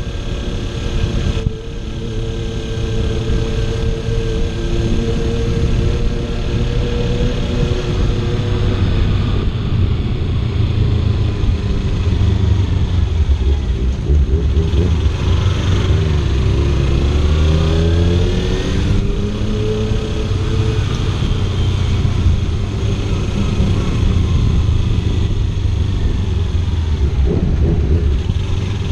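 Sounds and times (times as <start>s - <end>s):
motorcycle engine running: 0.0s - 28.9s
wind rushing over microphone: 0.0s - 28.9s.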